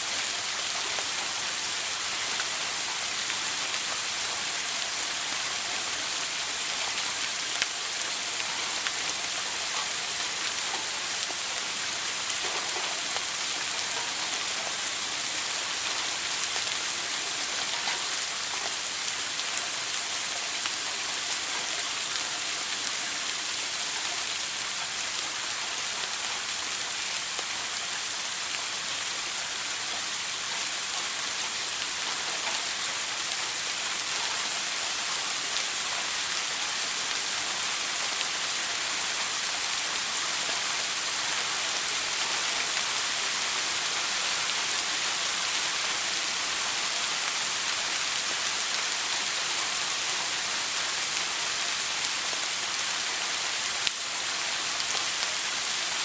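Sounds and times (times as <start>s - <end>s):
shower spraying water: 0.0s - 56.0s.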